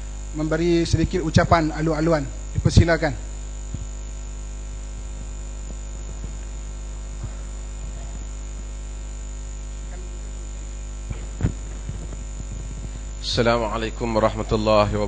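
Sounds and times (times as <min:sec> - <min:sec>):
electrical hum and buzz: 0:00.0 - 0:15.0
high whine: 0:00.0 - 0:15.0.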